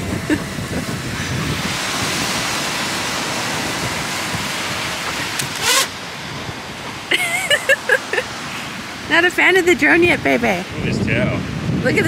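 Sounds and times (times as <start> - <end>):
surf washing on beach: 0.0 - 12.0
wind on microphone: 0.0 - 12.0.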